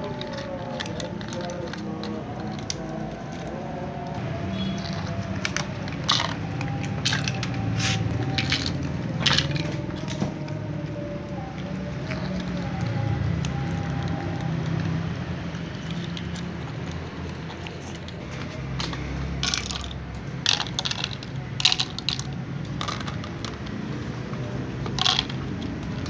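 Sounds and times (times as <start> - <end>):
cats crunching dry kibble: 0.0 - 26.0.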